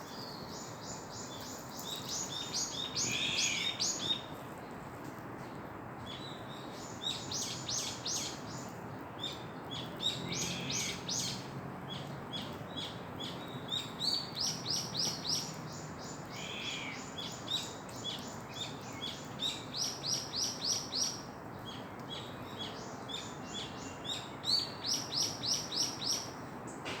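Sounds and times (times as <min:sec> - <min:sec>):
songbirds singing: 0:00.0 - 0:04.8, 0:05.4 - 0:27.0.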